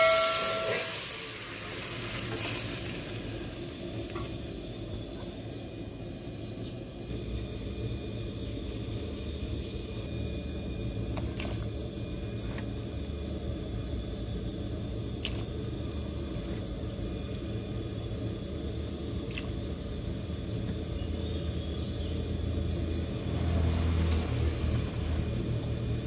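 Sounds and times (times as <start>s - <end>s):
soup boiling: 0.8s - 5.1s, 6.9s - 26.0s.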